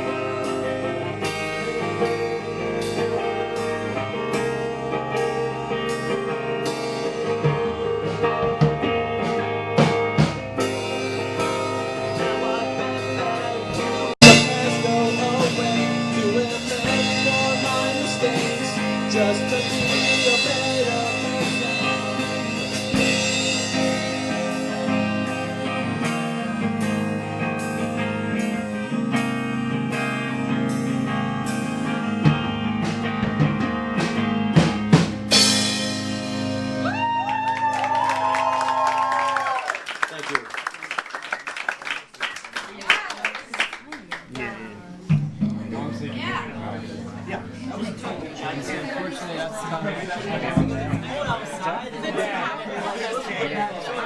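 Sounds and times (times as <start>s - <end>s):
live rock band playing: 0.0s - 39.7s, 44.5s - 53.2s.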